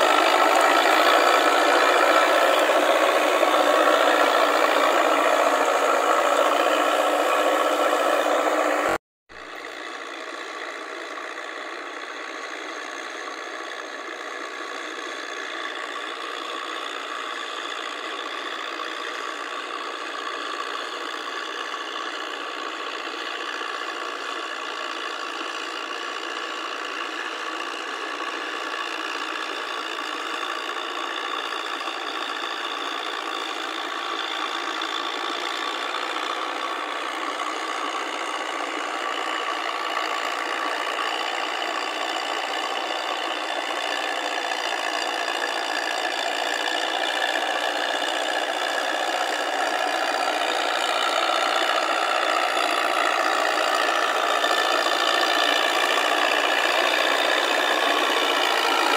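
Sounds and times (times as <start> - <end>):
tractor diesel engines running: 0.0 - 58.9.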